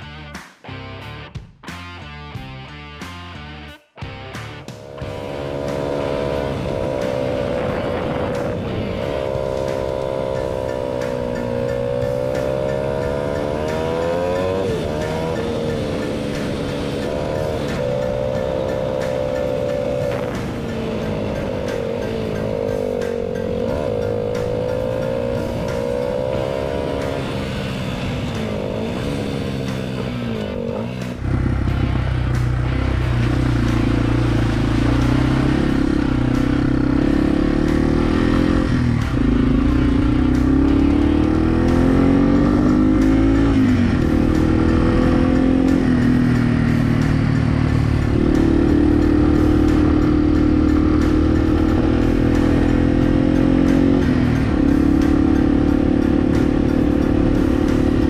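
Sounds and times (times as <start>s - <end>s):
motorcycle engine revving: 4.6s - 58.0s.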